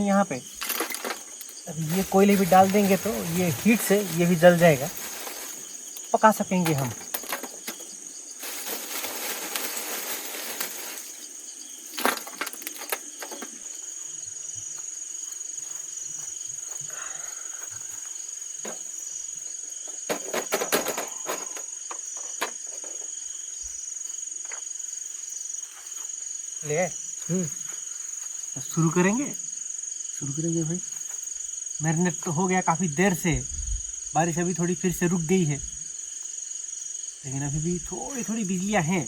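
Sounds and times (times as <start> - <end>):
night insects trilling: 0.0 - 39.0.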